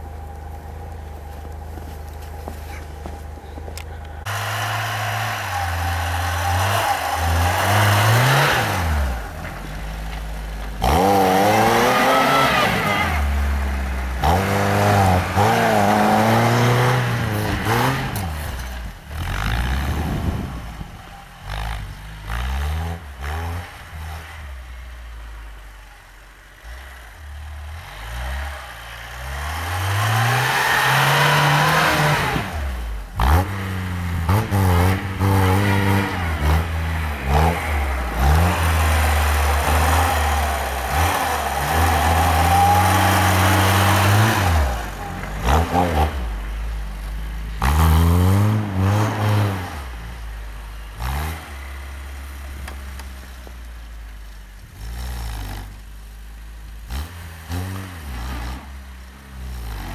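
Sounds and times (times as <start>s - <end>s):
car engine revving: 0.0s - 25.9s, 26.5s - 59.9s
wheels spinning in snow: 0.0s - 59.9s.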